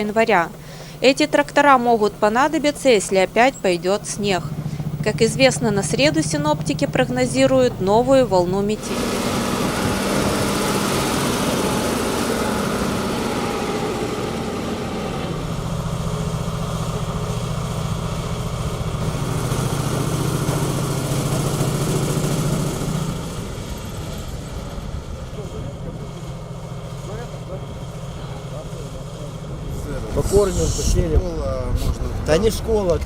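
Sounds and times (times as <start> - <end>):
diesel bulldozer engine running: 0.0 - 33.0.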